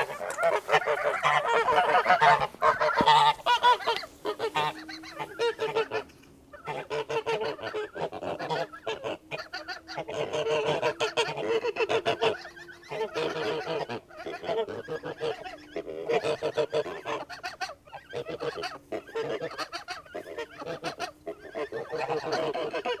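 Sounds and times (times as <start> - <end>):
geese honking and gabbling: 0.0 - 23.0.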